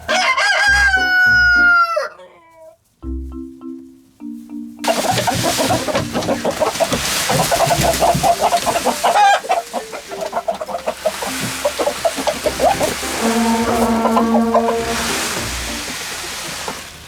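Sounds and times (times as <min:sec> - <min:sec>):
chickens clucking: 0:00.0 - 0:02.8, 0:04.8 - 0:17.0.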